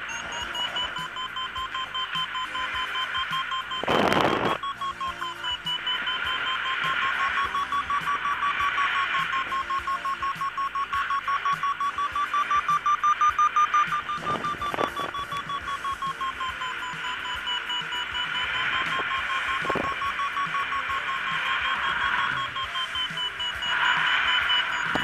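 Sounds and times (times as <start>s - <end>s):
variometer beeping: 0.0s - 25.0s.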